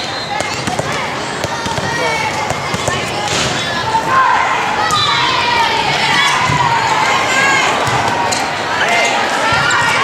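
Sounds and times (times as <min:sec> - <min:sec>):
children shouting and cheering: 0:00.8 - 0:10.0.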